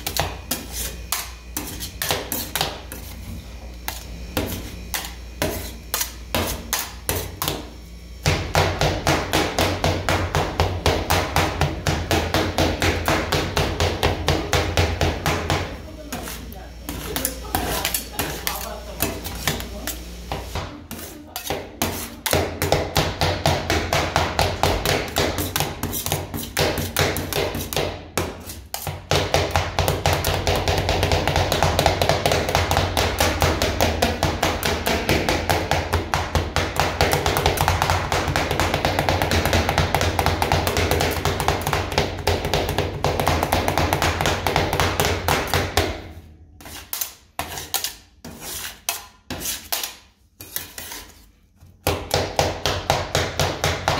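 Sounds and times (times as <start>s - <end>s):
metal spatulas chopping on steel plate: 0.0s - 3.0s, 3.9s - 7.7s, 8.3s - 51.1s.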